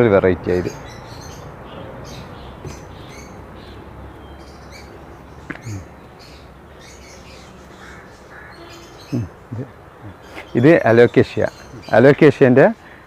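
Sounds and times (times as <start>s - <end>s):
birds chirping: 0.0s - 13.0s
low background noise: 0.0s - 13.0s.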